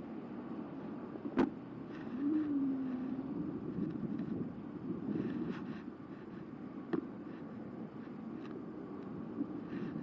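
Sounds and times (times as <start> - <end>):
electric bike rumble: 0.0 - 10.0
wind buffeting microphone: 0.0 - 10.0.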